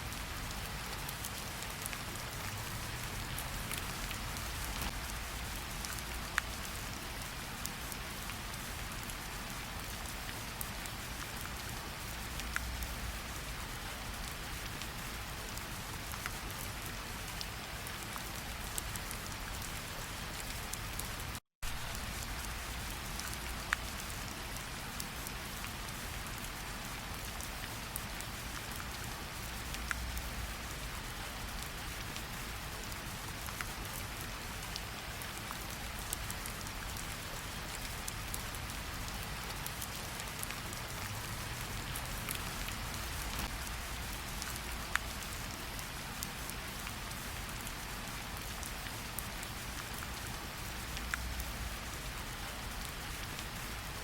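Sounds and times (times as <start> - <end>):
rain on forest ground: 0.0 - 54.0.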